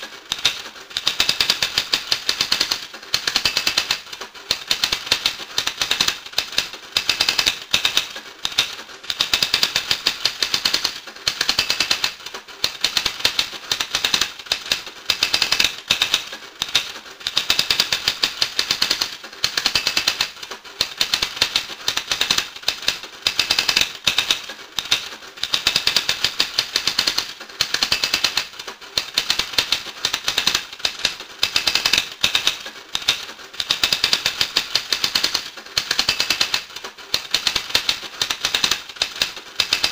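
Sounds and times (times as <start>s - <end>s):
rapid clattering clicks: 0.0s - 39.9s.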